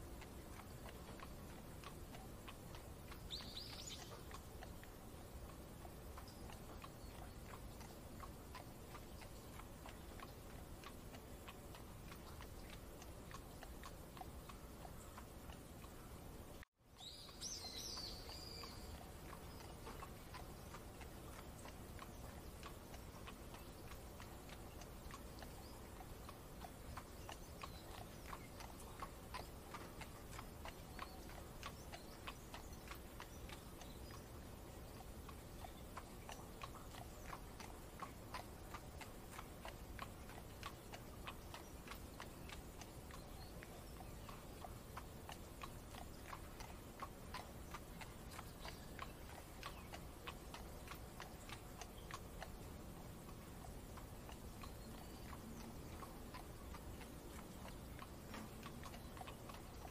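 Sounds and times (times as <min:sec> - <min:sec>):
horse hooves clip-clopping: 0:00.0 - 0:59.9.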